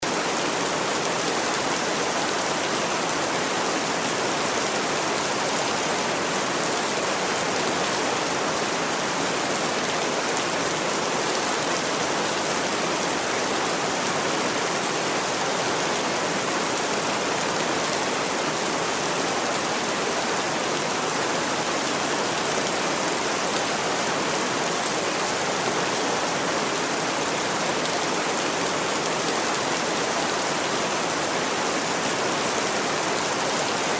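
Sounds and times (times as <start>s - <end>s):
rain on a roof: 0.0s - 33.9s.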